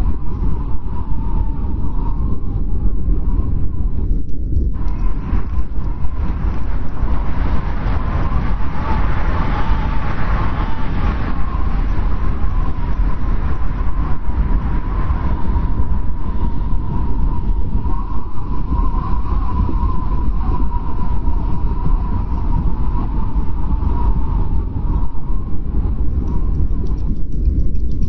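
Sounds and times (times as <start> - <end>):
wavering wind whistle: 0.0 - 27.7
blizzard wind rumbling: 0.0 - 28.0.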